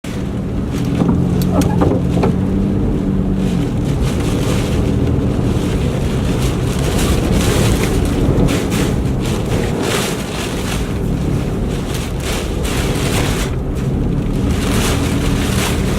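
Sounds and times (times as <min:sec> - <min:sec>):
strong wind buffeting microphone: 0:00.1 - 0:15.9.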